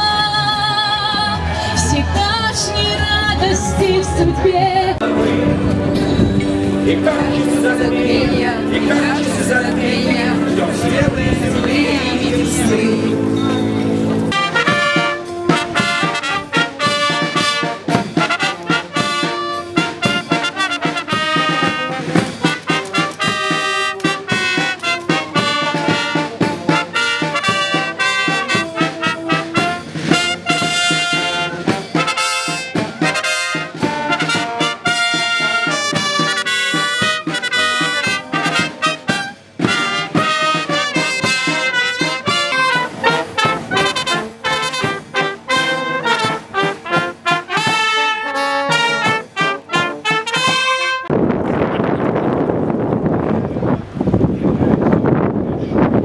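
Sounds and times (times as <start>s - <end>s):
brass band playing: 0.0s - 52.8s.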